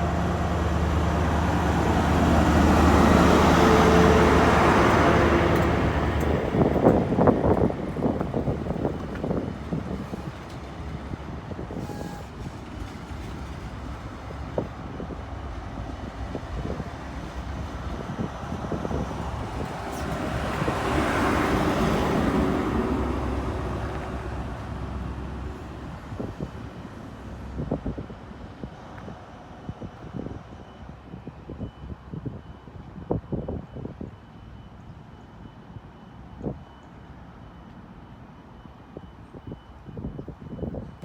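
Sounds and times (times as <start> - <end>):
train diesel engine rumbling: 0.0 - 41.0.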